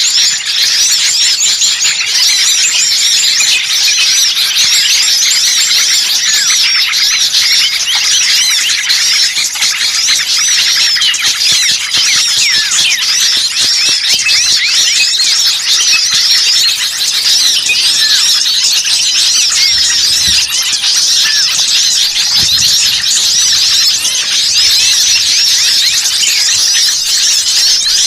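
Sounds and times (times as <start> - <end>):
songbirds chirping and twittering: 0.0 - 28.0.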